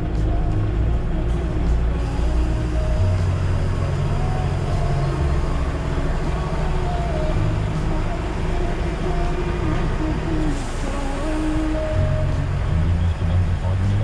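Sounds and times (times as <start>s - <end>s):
background music: 0.0s - 14.0s
diesel truck engine idling: 0.0s - 14.0s.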